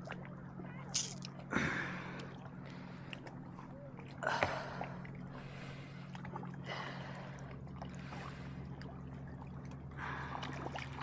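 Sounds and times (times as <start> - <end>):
water lapping around boat: 0.0 - 11.0.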